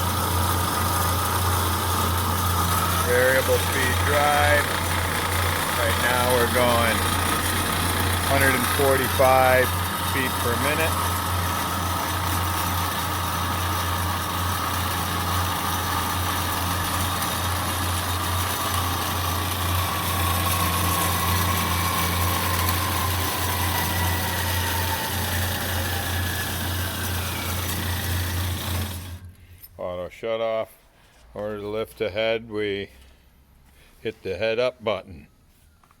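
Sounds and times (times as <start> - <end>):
bandsaw motor hum: 0.0 - 29.4.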